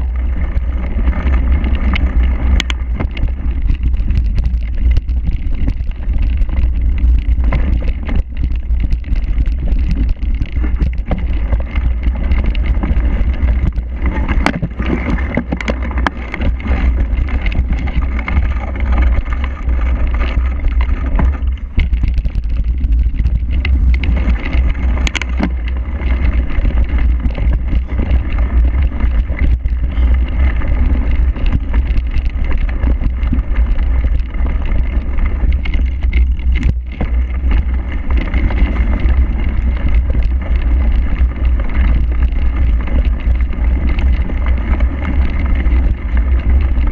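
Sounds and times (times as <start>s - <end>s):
bike rattles and knocks: 0.0s - 46.9s
deep rumble: 0.0s - 46.9s
wind buffeting microphone: 0.0s - 46.9s.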